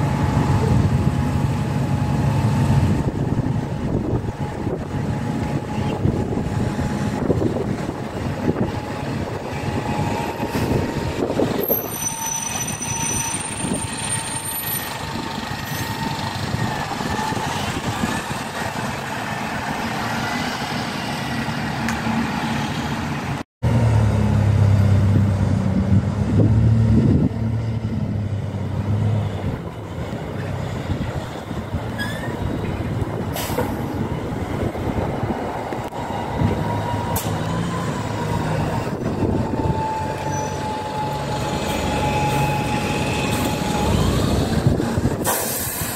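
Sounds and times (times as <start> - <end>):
bus engine low drone: 0.0 - 45.9
diesel buses pulling away: 0.0 - 45.9.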